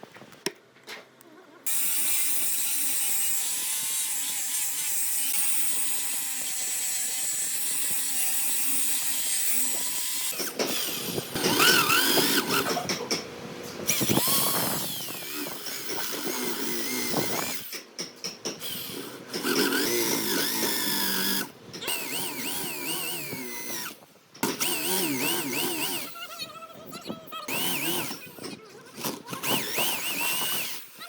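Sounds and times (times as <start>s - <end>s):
power tool motor cutting wood: 1.7s - 13.0s, 13.9s - 17.8s, 18.6s - 26.2s, 27.5s - 31.0s.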